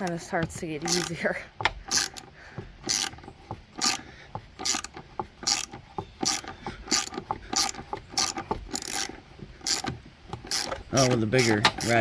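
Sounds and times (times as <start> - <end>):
hand ratchet clicking: 0.0 - 12.0.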